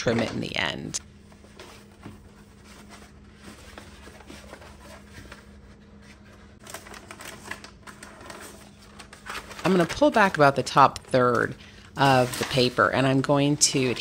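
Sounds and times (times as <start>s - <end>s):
paper rustling and crinkling: 1.2s - 14.0s.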